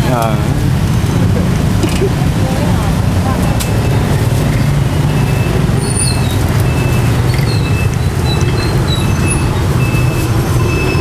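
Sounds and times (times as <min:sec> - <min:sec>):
low street rumble: 0:00.0 - 0:11.0.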